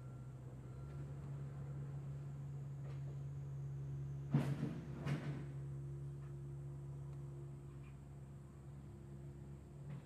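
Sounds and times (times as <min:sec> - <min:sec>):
excavator engine hum: 0:00.0 - 0:10.0.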